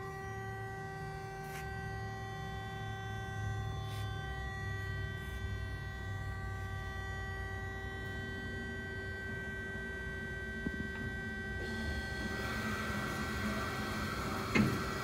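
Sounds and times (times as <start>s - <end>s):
band saw motor humming: 1.3s - 15.0s.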